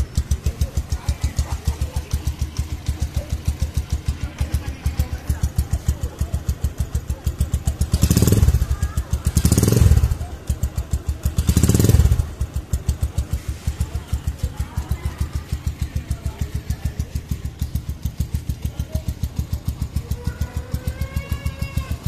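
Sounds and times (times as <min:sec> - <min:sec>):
motorcycle idling: 0:00.0 - 0:22.0.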